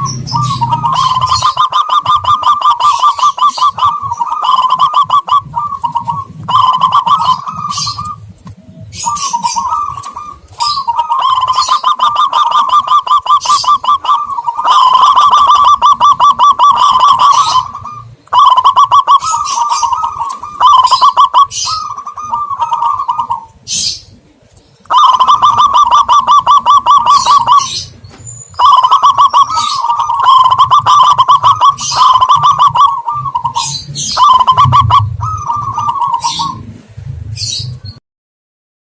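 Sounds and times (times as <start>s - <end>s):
doves cooing: 0.0s - 38.0s.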